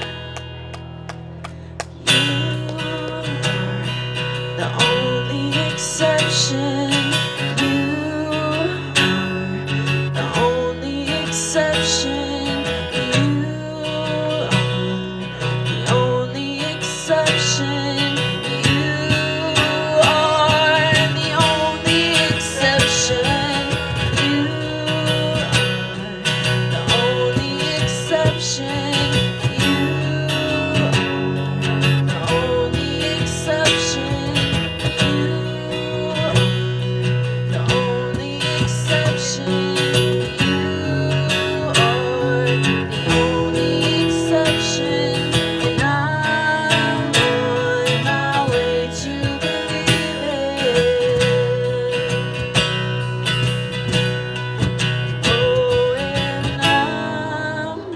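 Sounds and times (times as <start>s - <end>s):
electric guitar: 0.0s - 57.9s
strummed acoustic guitar: 0.0s - 57.9s
woman singing: 2.0s - 3.9s, 4.5s - 52.6s, 55.2s - 57.9s.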